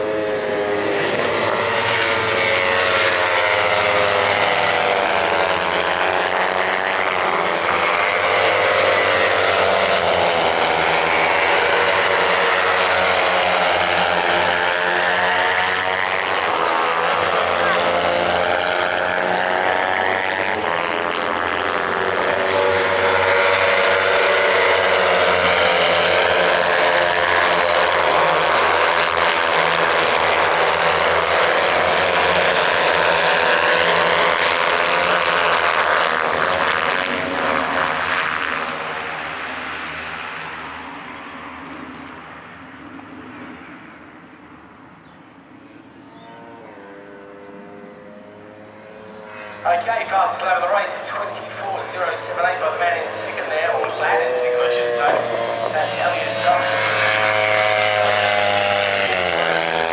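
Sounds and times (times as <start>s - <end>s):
racing motorcycles passing: 0.0s - 59.9s.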